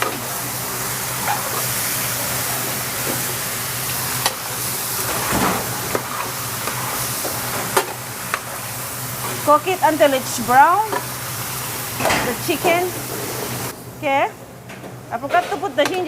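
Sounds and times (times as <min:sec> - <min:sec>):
chicken sizzling in a pan: 0:00.0 - 0:13.7.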